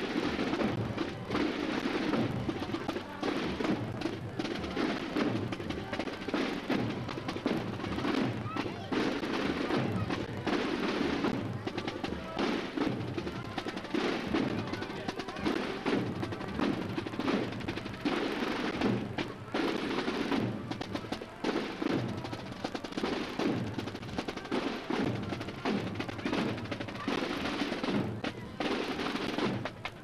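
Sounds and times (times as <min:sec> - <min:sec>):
marching drums playing: 0:00.0 - 0:30.0
snare rolls: 0:00.0 - 0:30.0.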